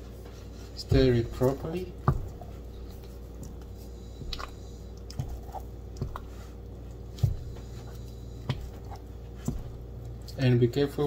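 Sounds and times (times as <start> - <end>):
dough squishing: 0.0 - 11.0.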